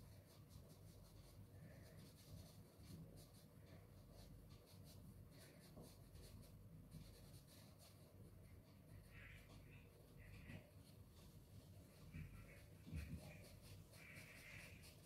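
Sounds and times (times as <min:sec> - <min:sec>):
pastel scratching on paper: 0:00.0 - 0:15.0.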